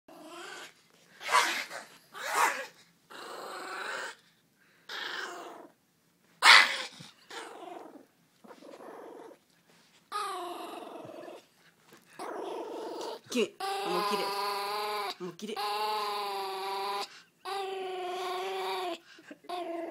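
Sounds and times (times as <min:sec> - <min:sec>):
small dog growling in play: 0:00.1 - 0:05.8, 0:06.5 - 0:09.4, 0:10.1 - 0:11.6, 0:12.2 - 0:19.9.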